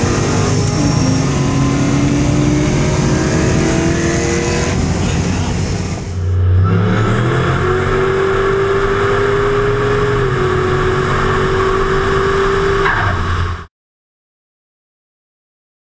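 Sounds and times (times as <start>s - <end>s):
engines accelerating at full throttle: 0.0s - 13.7s.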